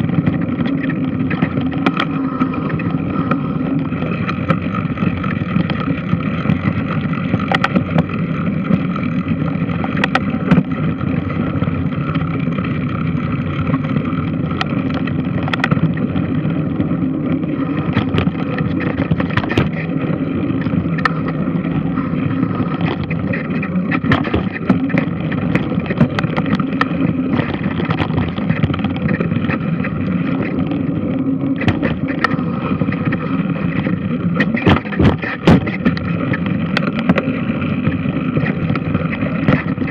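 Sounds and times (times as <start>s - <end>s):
churning water: 0.0s - 39.9s
sharp clicks and knocks: 0.0s - 39.9s.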